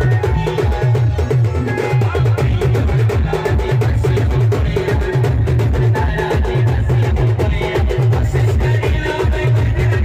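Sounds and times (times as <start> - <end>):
fast drum beat: 0.0 - 10.0.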